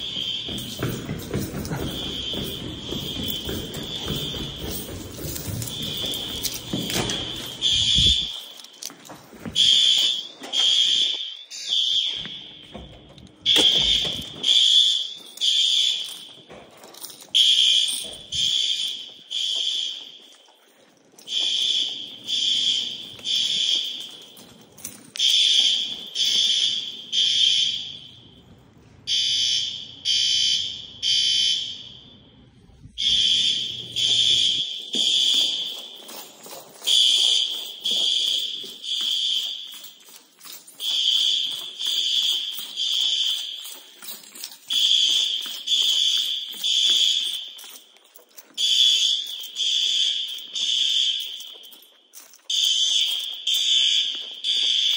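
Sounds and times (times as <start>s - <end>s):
fire alarm horns blasting: 0.0s - 54.9s.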